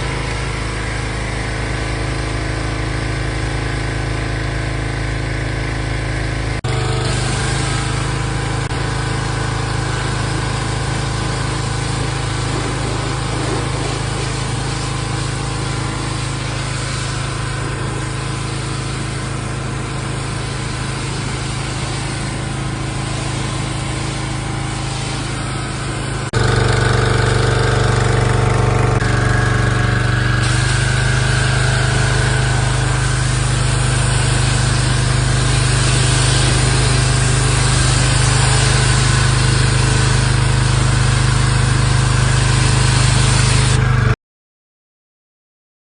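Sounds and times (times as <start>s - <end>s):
pressure washer engine running: 0.0s - 44.2s.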